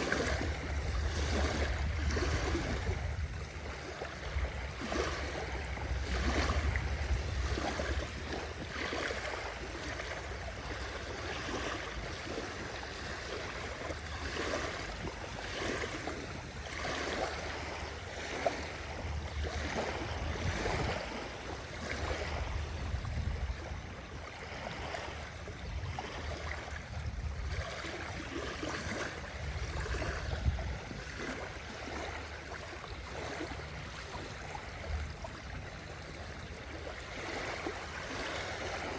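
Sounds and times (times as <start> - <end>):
small waves lapping on shore: 0.0 - 38.9.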